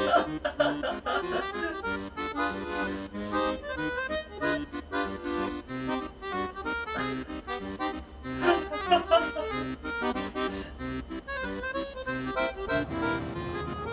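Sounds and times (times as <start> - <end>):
solo accordion tune: 0.0 - 13.9.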